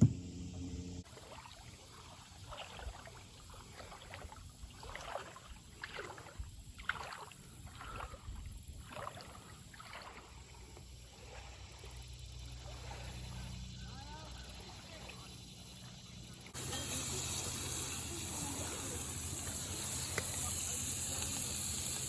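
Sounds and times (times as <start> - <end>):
water splashing and sloshing: 1.0 - 22.0.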